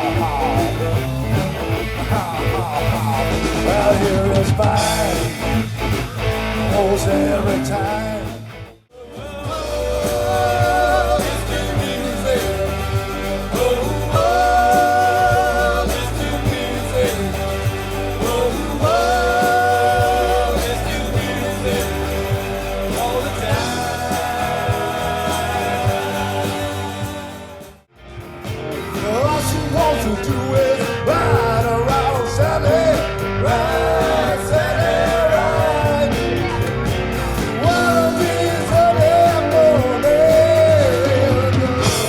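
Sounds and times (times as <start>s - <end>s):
bass guitar: 0.0s - 42.0s
drums: 0.0s - 42.0s.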